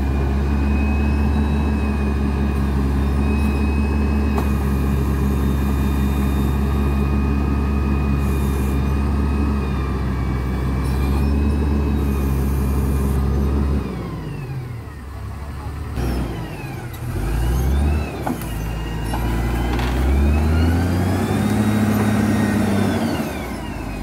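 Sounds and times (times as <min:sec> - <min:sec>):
diesel engine droning with whine: 0:00.0 - 0:24.0.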